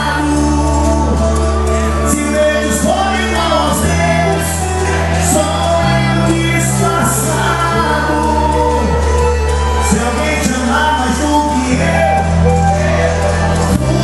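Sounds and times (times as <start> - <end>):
bass notes: 0.0 - 14.0
live band music: 0.0 - 14.0.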